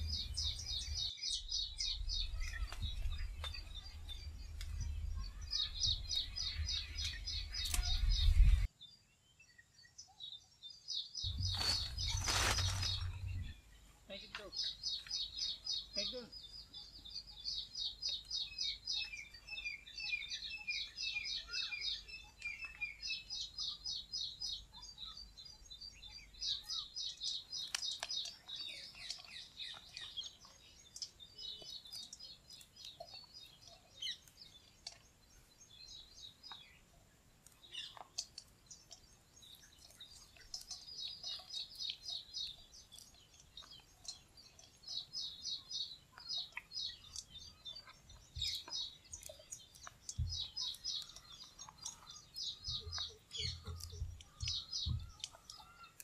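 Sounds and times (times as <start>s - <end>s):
small birds trilling: 0.0s - 56.0s.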